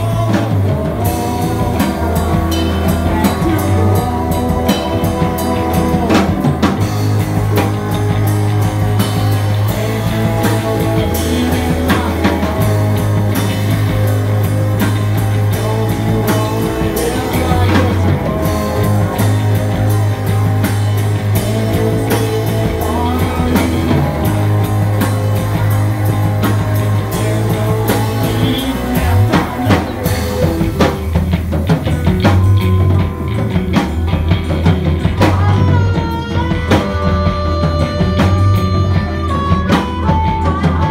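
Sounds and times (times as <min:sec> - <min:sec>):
drum kit: 0:00.0 - 0:40.9
electric bass guitar: 0:00.0 - 0:40.9
electric guitar: 0:00.0 - 0:40.9.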